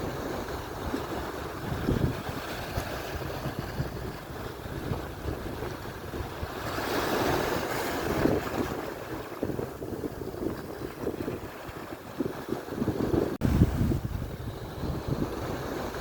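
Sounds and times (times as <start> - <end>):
surf washing on shore: 0.0 - 16.0
wind buffeting microphone: 0.0 - 16.0.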